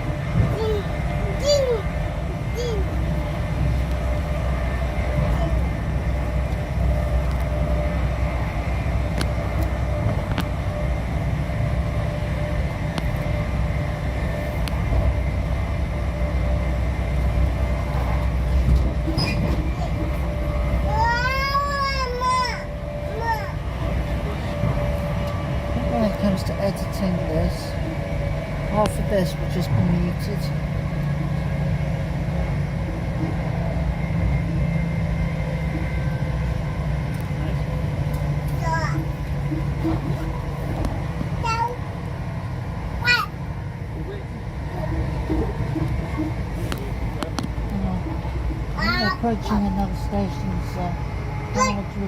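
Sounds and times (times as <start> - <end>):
engine hum: 0.0 - 52.0
train rumble: 0.0 - 52.0.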